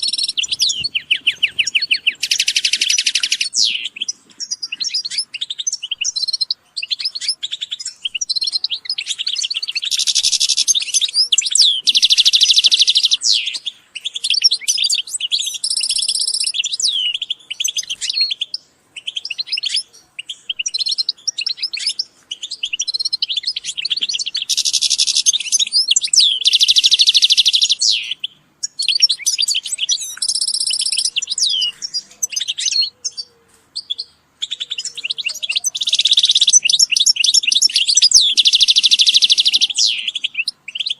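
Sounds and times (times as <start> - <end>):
goldfinches twittering: 0.0 - 13.7, 20.6 - 40.9
dense bird trills: 0.0 - 40.9.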